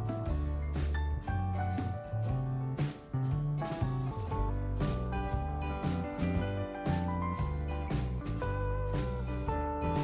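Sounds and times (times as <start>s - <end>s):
instrumental blues music: 0.0s - 10.0s.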